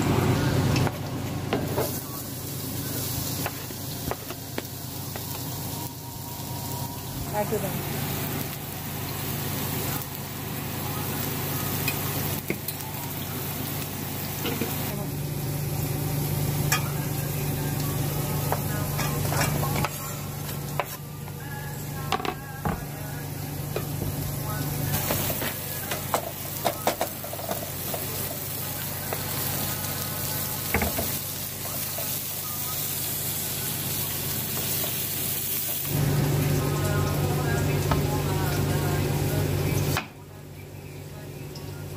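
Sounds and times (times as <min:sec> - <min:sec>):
food sizzling in a pan: 0:00.0 - 0:41.9.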